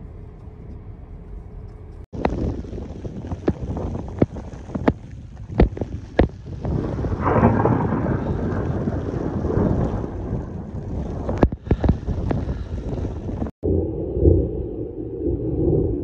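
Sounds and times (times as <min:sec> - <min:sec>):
wind buffeting microphone: 0:02.2 - 0:16.0.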